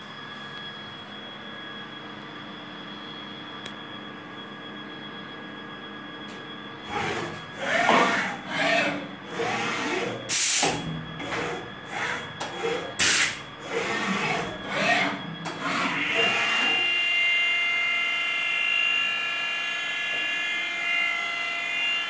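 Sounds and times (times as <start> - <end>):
loud mechanical machine noise: 0.0 - 22.0
machine humming: 0.0 - 22.0
machine whines: 0.0 - 22.0.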